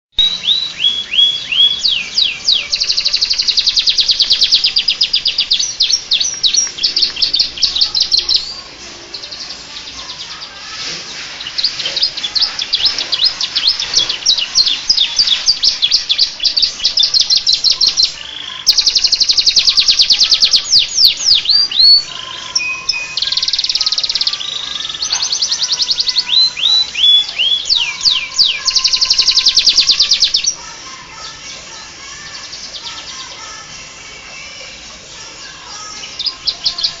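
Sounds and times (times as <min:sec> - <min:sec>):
canary singing trills: 0:00.2 - 0:37.0.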